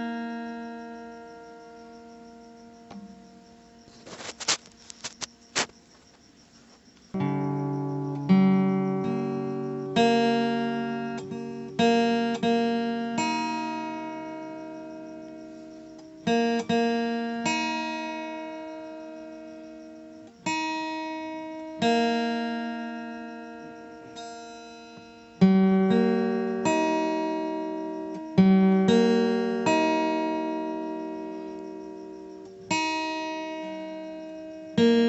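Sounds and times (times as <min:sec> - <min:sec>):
plucked acoustic guitar: 0:00.0 - 0:05.8, 0:07.1 - 0:35.0.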